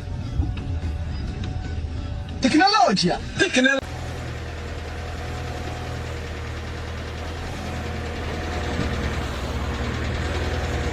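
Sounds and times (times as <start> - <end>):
engine running with low pulse: 0.0 - 2.4, 3.3 - 10.9.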